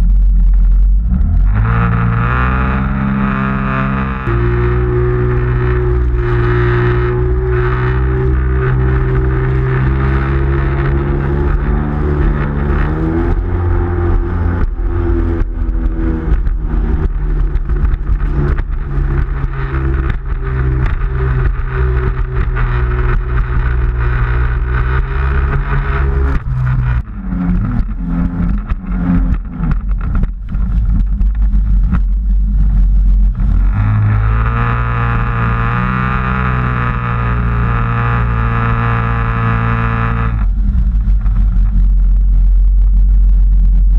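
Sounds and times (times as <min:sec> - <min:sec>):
jet ski engine running: 0:00.0 - 0:43.8
wind: 0:00.0 - 0:43.9.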